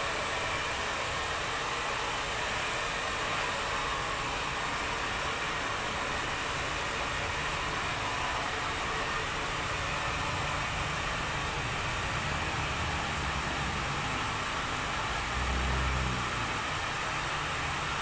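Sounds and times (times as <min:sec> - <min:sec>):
hair dryer blowing: 0:00.0 - 0:18.0.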